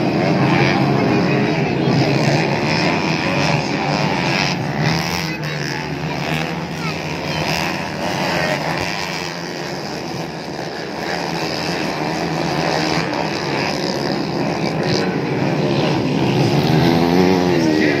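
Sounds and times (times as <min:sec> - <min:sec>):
dirt bike engines droning: 0:00.0 - 0:18.0.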